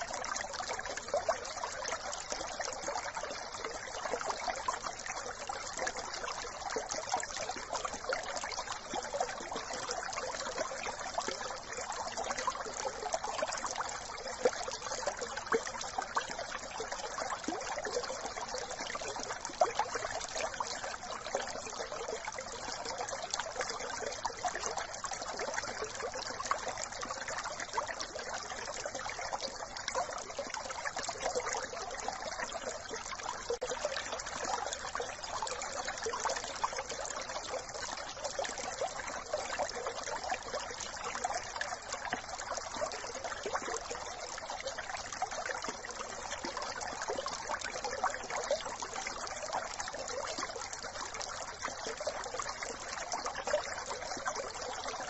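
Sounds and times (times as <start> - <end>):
brook trickling over stones: 0.0 - 55.0.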